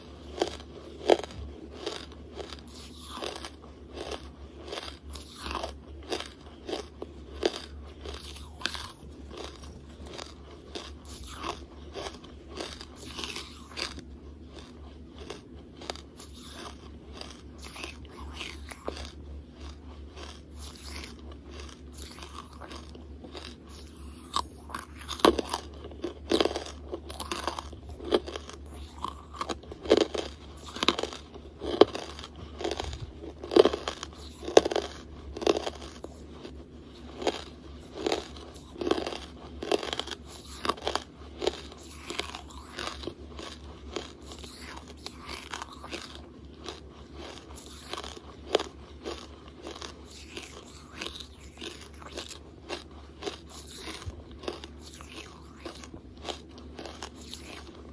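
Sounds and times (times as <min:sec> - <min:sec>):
chewing hard charcoal: 0:00.0 - 0:57.9.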